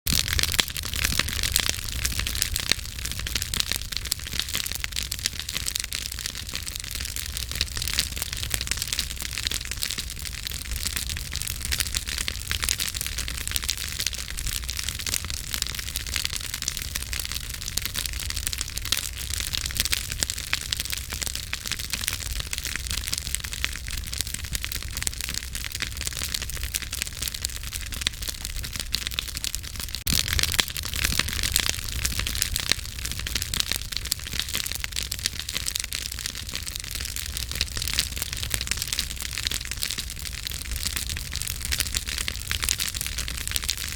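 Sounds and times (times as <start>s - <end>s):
low rumble of flames: 0.1s - 43.9s
wood crackling and popping: 0.1s - 43.9s.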